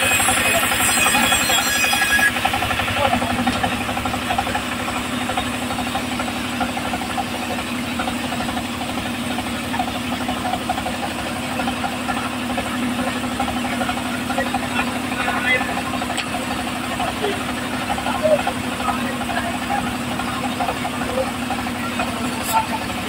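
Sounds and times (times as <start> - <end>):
engine driving bandsaw mill: 0.0 - 23.0.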